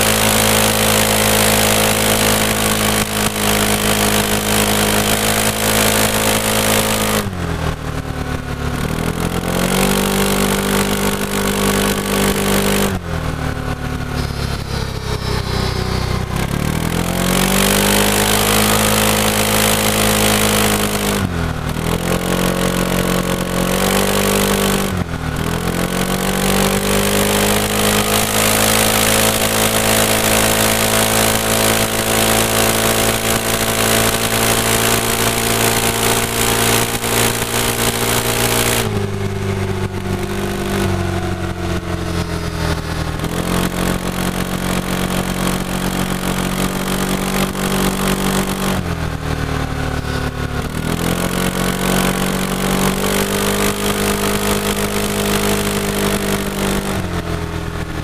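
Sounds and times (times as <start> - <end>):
scooter engine and exhaust: 0.0 - 58.0.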